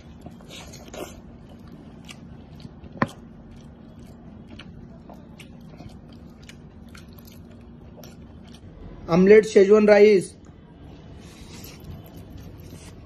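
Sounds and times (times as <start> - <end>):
man chewing food: 0.0 - 9.0, 10.4 - 13.0
low steady hum: 0.0 - 13.0.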